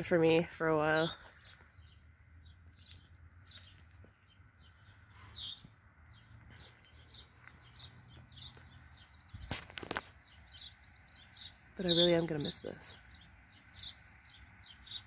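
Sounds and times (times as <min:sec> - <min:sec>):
birds chirping and whistling: 0:00.8 - 0:15.0.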